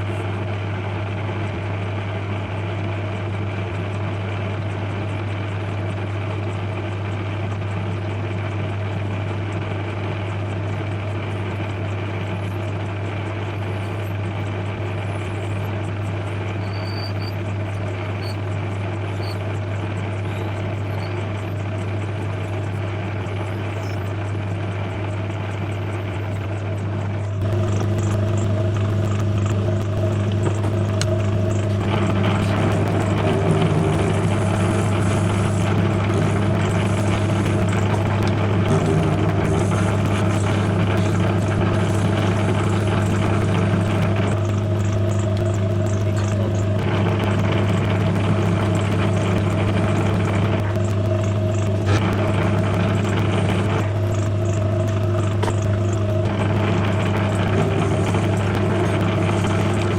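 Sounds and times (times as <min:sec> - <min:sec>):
lathe motor hum: 0:00.0 - 0:59.9.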